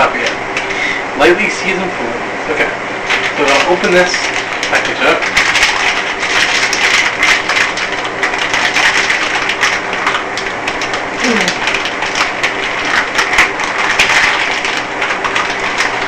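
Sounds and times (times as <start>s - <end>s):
plastic packaging crinkling: 3.0s - 16.0s.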